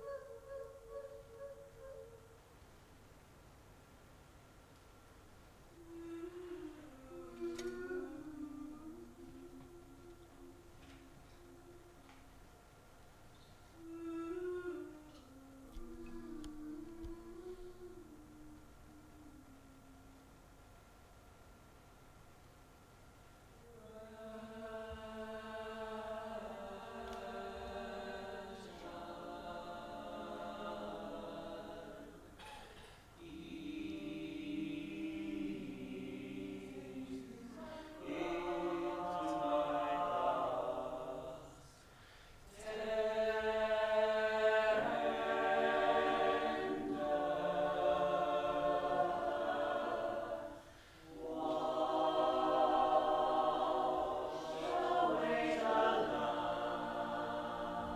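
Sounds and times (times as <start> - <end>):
group singing a cappella: 5.8 - 12.1, 13.8 - 20.2, 23.6 - 57.9.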